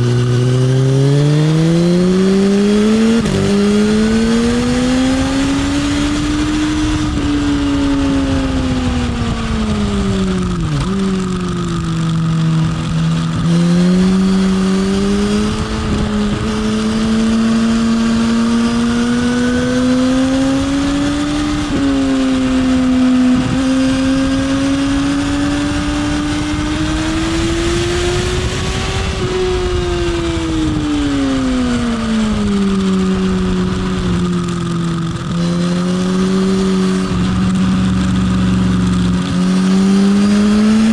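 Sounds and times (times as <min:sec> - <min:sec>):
motorcycle engine at speed: 0:00.0 - 0:40.9.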